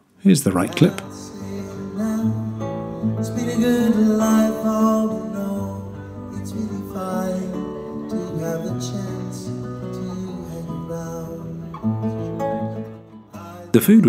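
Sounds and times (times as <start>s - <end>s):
man singing into microphone: 0.6s - 12.4s, 13.3s - 14.0s
classical guitar playing: 0.6s - 14.0s.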